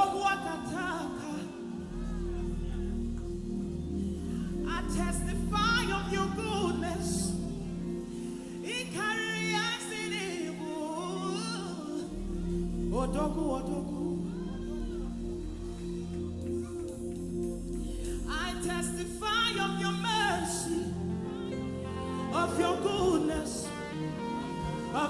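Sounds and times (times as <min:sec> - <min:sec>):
gospel worship music: 0:00.0 - 0:25.0.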